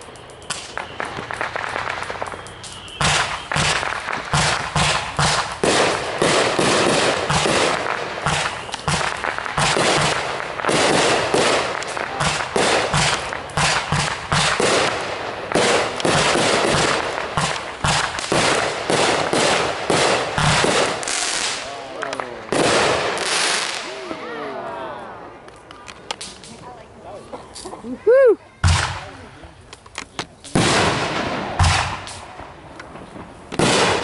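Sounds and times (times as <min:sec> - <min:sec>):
fireworks bangs: 0:00.0 - 0:24.3, 0:28.6 - 0:29.4, 0:30.3 - 0:34.0
fireworks crackling: 0:00.0 - 0:34.0.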